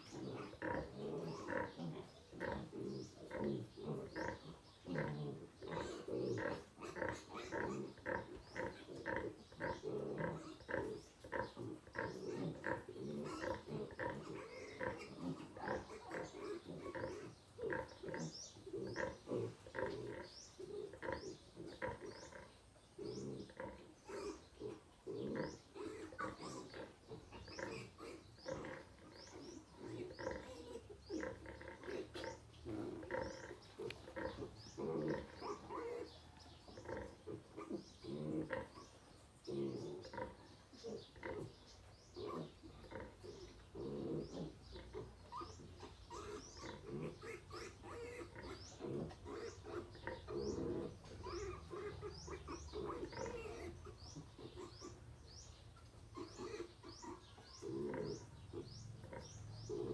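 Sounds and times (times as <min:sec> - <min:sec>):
piglets grunting: 0:00.0 - 0:59.9.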